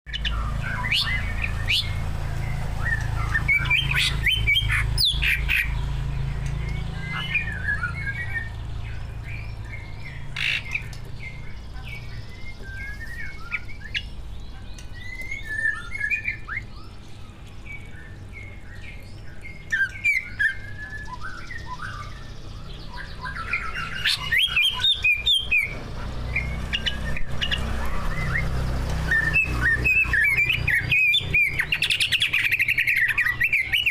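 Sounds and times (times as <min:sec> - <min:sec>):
bird singing chattering song: 0:00.1 - 0:33.9.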